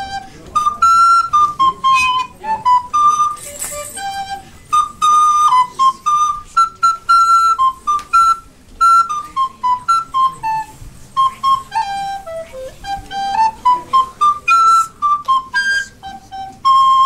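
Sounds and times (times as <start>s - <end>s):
recorder playing lively tune: 0.0s - 17.0s.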